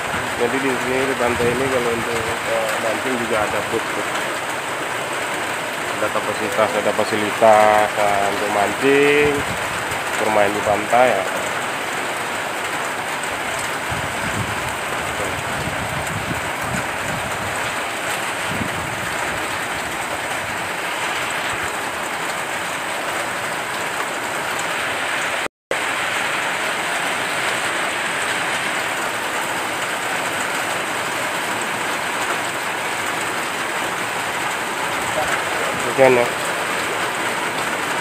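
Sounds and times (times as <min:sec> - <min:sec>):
heavy rain hiss: 0:00.0 - 0:38.0.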